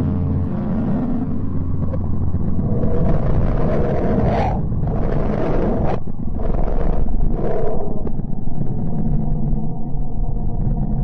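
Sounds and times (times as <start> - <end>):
deep rumble: 0.0 - 11.0
low steady hum: 0.0 - 11.0.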